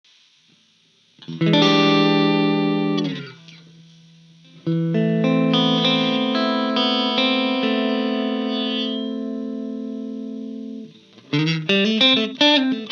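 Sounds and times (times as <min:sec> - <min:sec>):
distorted electric guitar chords: 0:01.2 - 0:12.9.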